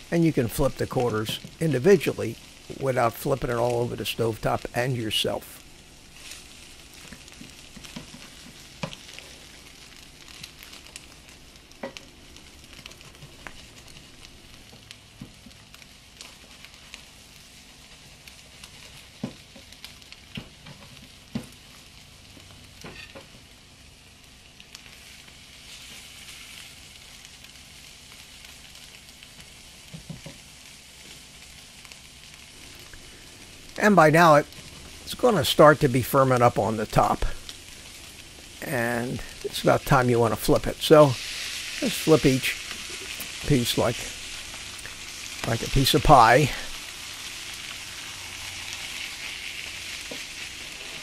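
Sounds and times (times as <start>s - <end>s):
omelette sizzling in frying pan: 0.0s - 51.0s.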